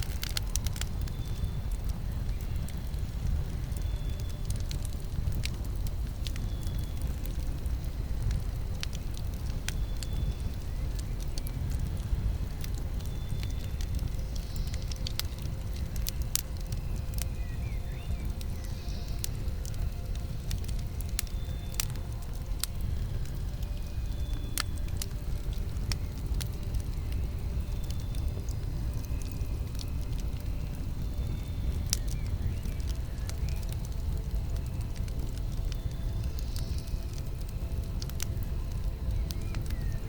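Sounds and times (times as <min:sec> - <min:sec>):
fire crackles and pops: 0:00.0 - 0:40.0
low rush of flame: 0:00.0 - 0:40.0.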